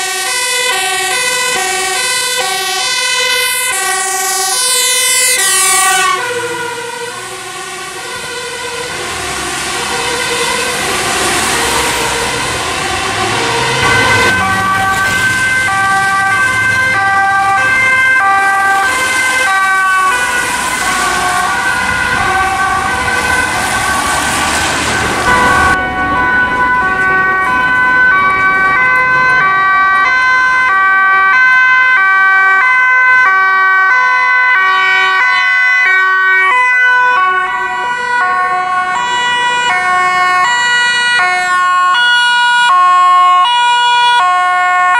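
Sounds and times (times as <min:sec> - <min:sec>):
engine and wet road noise: 0:00.0 - 0:44.9
two-tone ambulance siren: 0:00.0 - 0:44.9
two-tone fire engine siren: 0:00.0 - 0:44.9.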